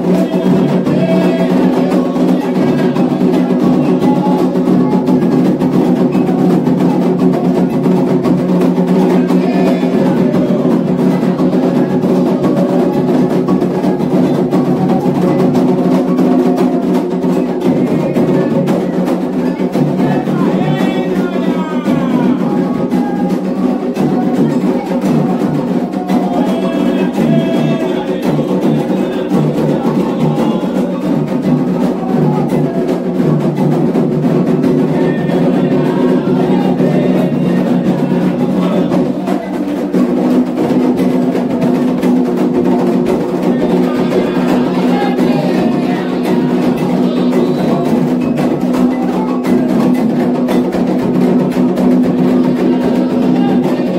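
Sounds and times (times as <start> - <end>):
hand drums rhythm: 0.0 - 53.9
sharp wood-block strikes: 0.0 - 53.9
voices singing: 0.0 - 53.9.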